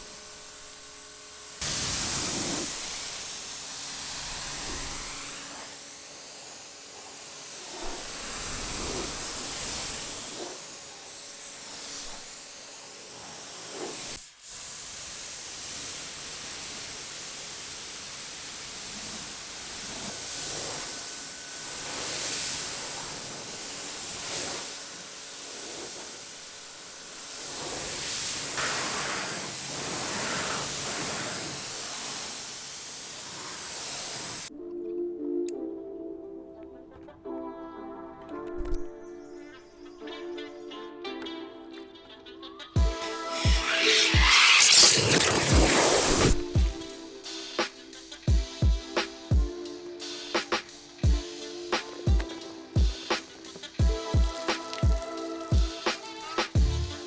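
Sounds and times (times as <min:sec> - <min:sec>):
spray wand hissing against car: 0:00.0 - 0:34.5, 0:42.9 - 0:48.2, 0:50.0 - 0:57.0.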